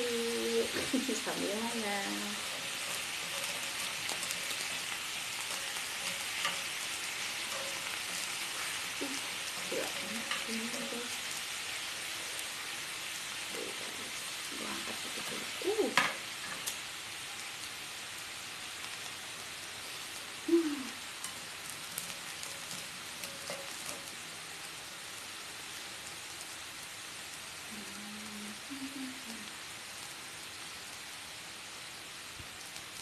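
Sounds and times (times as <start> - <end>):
meat sizzling in a pan: 0.0 - 33.0.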